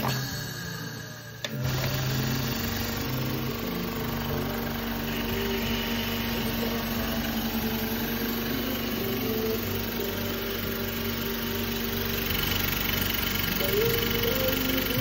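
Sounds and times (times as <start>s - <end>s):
air compressor humming: 0.0s - 15.0s.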